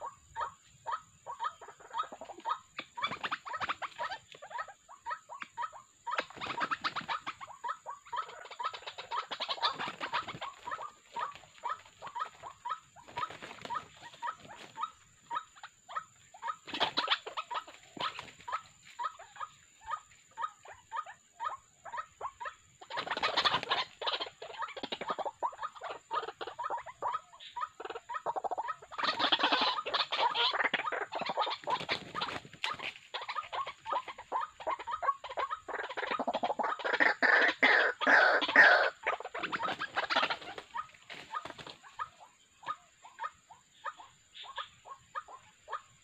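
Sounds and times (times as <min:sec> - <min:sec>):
waterhens croaking calls: 0:00.0 - 0:46.0.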